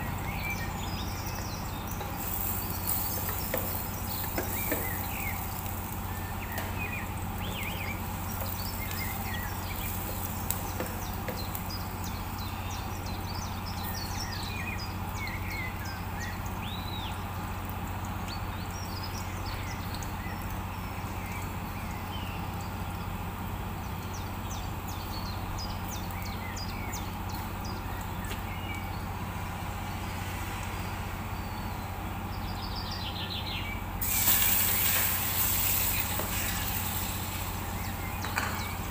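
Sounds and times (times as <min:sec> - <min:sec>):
loud sizzle of meat in oil: 0:00.0 - 0:27.5, 0:34.0 - 0:38.9
aromatics sauteing in oil: 0:00.0 - 0:38.9.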